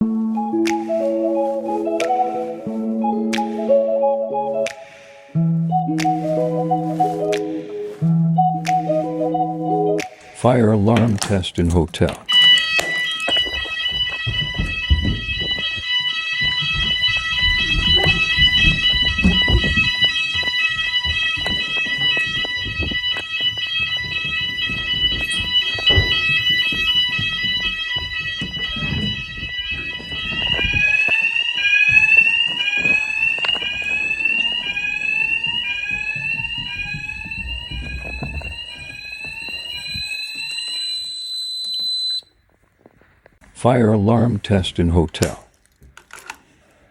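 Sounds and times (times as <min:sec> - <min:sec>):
fire alarm sounders: 0:00.0 - 0:42.4.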